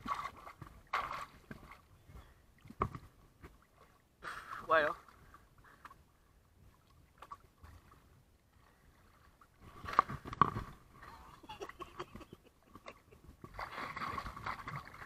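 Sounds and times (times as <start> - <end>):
water lapping against camera: 0.0 - 15.0.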